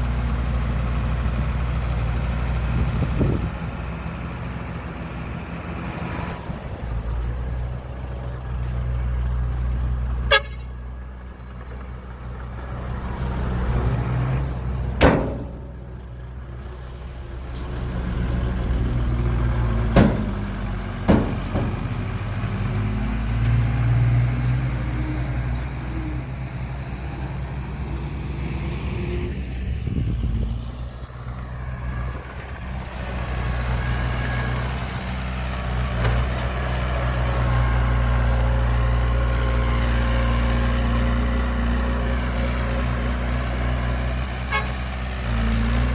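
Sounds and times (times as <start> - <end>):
heavy diesel engine: 0.0 - 45.9.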